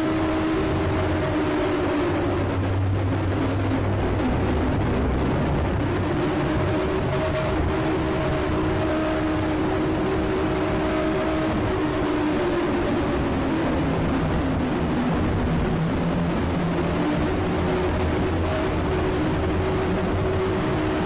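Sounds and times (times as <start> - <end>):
emergency alarm rumble with low tones: 0.0 - 21.0.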